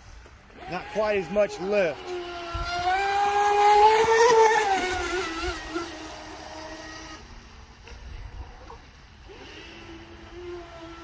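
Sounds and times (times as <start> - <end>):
electric boat motor whining: 0.4 - 11.0.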